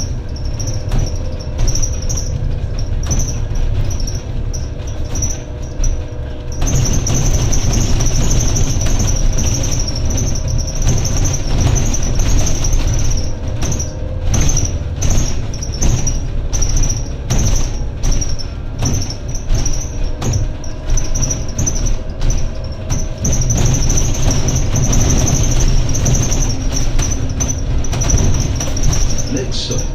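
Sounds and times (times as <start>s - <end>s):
bus engine and road rumble: 0.0s - 29.9s
high whine and squeaks: 0.0s - 29.9s.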